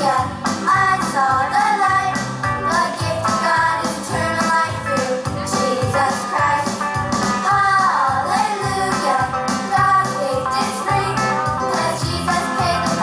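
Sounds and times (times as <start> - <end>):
upbeat country gospel song: 0.0 - 13.0.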